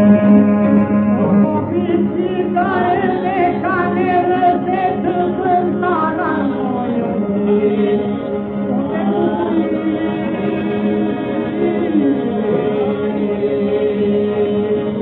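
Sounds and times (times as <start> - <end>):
instrumental ensemble: 0.0 - 15.0
vocal group singing: 0.0 - 15.0.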